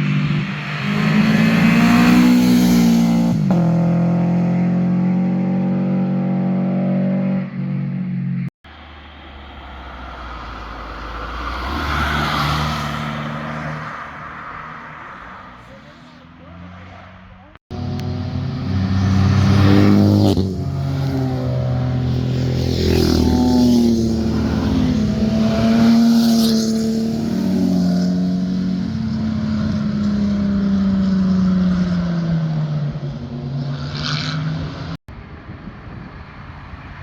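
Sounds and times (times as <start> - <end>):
car engines accelerating past: 0.0 - 8.0, 8.7 - 35.0.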